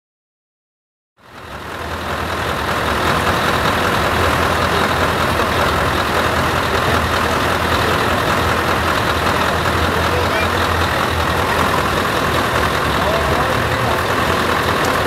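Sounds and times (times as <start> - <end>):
truck diesel engine idling: 1.2 - 15.0.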